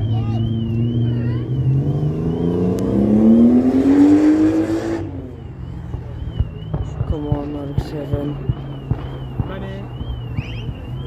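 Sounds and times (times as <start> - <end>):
car engine accelerating: 0.0 - 9.3.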